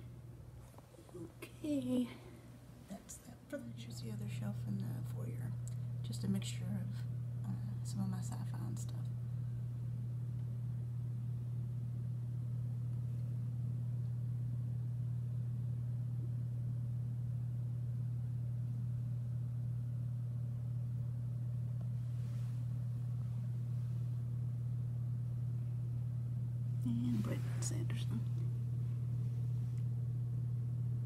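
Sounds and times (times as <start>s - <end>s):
faint room noise: 0.0s - 31.0s
steady low hum: 0.0s - 31.0s.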